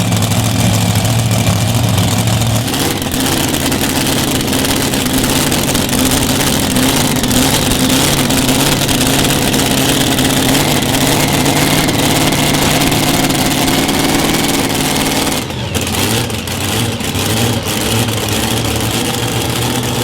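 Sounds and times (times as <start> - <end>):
pulling vehicle engine running: 0.0 - 20.0.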